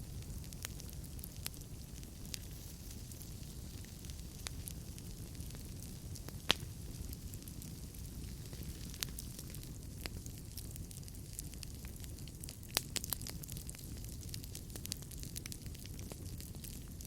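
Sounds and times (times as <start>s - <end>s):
fire flame rumble: 0.0s - 17.0s
logs crackling and popping: 0.0s - 17.0s.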